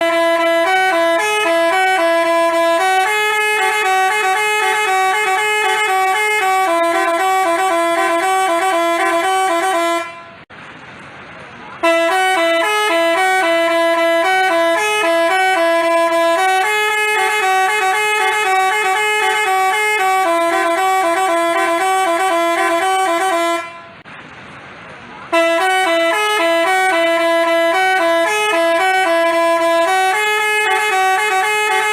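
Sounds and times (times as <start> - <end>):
musical bus horn tune: 0.0 - 10.5, 11.8 - 24.1, 25.3 - 31.9.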